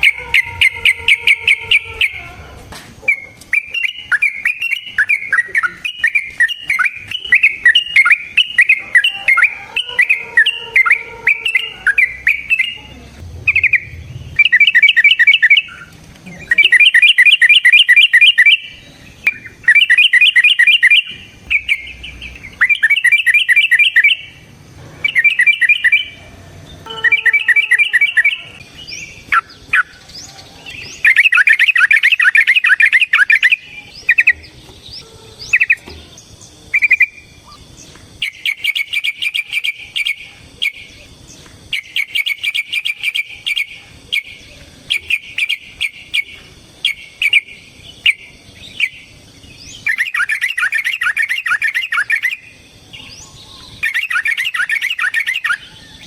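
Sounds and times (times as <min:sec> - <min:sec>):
bird singing and chattering: 0:00.0 - 0:56.0.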